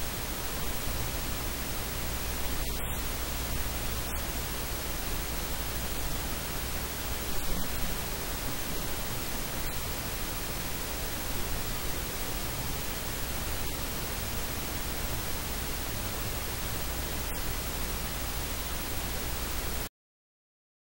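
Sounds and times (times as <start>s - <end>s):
static hiss: 0.0s - 19.9s.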